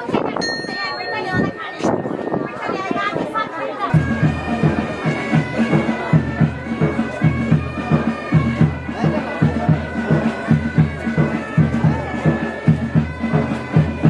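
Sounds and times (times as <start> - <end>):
low drum beat: 0.4 - 14.0
bagpipes playing a tune: 0.5 - 14.0.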